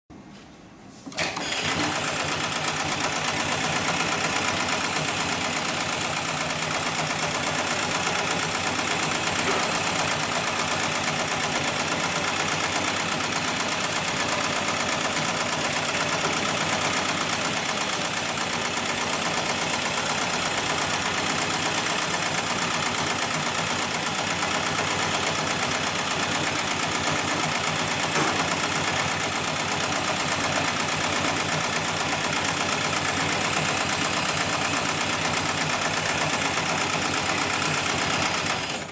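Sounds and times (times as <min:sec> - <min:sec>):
sewing machine stitching: 0:01.1 - 0:38.9.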